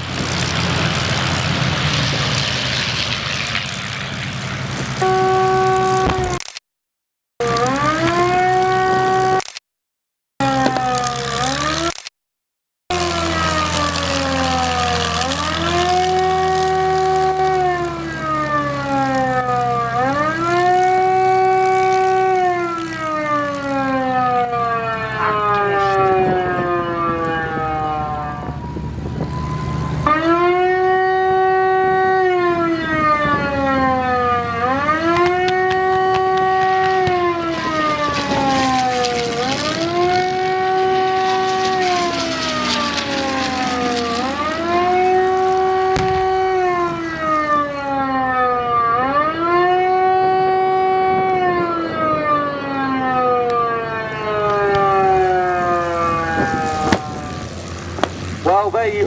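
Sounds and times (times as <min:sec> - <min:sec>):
air raid siren wailing: 0:00.0 - 0:06.4, 0:07.4 - 0:09.5, 0:10.4 - 0:12.0, 0:12.9 - 0:59.0.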